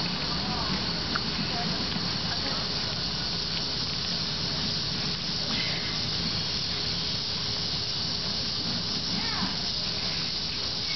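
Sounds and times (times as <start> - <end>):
electric train pulling away: 0.0 - 10.9.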